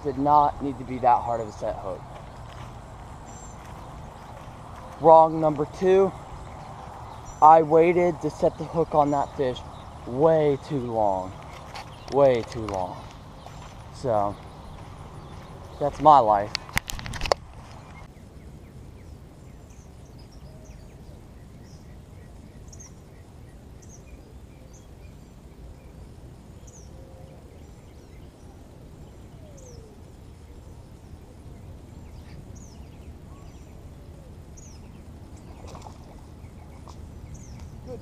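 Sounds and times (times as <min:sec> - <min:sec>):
birds chirping: 0:00.0 - 0:38.0
low outdoor rumble: 0:00.0 - 0:38.0.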